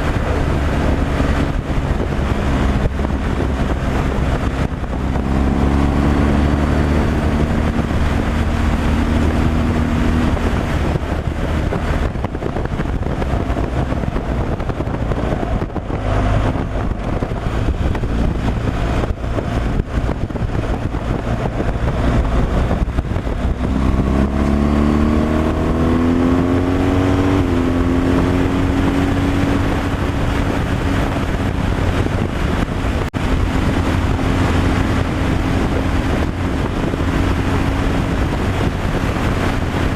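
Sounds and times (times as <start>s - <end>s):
road and wind noise: 0.0s - 39.9s
truck engine running: 0.0s - 39.9s.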